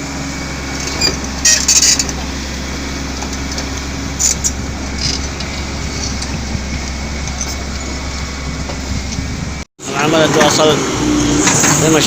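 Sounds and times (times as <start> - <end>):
engine rumbling: 0.0 - 12.0.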